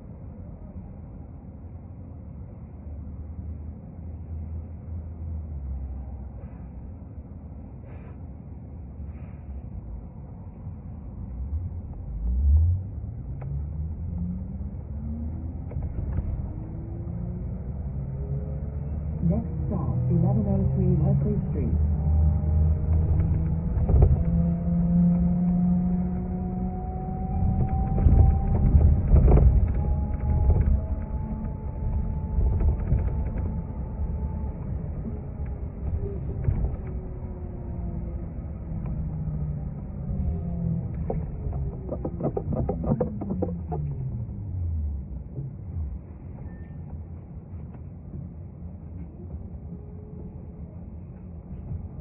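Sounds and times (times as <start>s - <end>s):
bus engine rumbling: 0.0s - 52.0s
rising engine whine: 9.7s - 52.0s.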